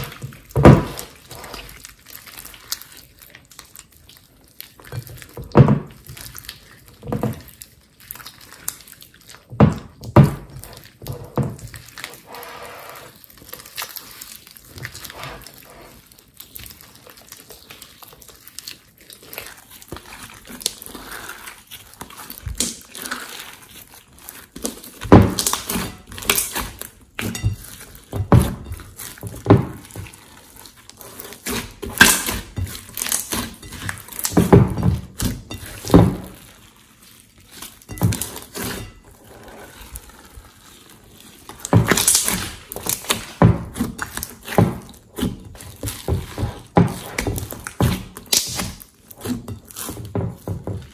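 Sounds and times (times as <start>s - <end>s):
slime squelching and popping: 0.0s - 50.9s.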